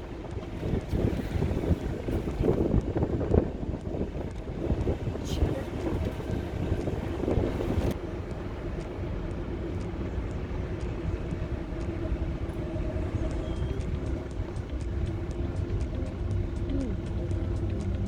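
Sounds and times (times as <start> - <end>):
car engine and road noise: 0.0 - 18.0
rush of wind-like noise: 0.0 - 18.0.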